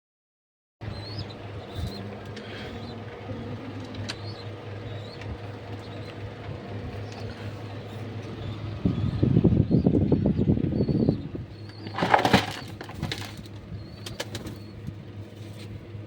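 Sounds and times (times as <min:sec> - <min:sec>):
pigeons chirping and squeaking: 0:00.8 - 0:16.0
steady low hum: 0:00.8 - 0:16.0.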